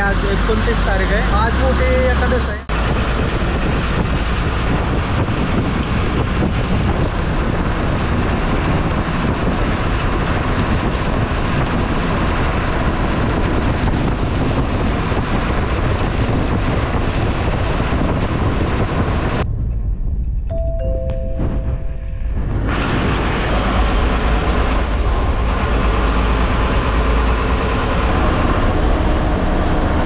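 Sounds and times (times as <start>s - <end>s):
bus road noise rumble: 0.0s - 30.0s
wind buffeting microphone: 0.0s - 30.0s
wind rushing: 0.0s - 30.0s.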